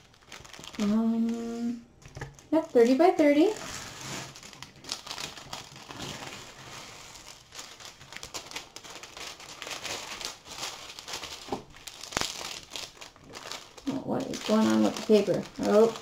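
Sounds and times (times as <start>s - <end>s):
plastic film crinkling: 0.0s - 16.0s.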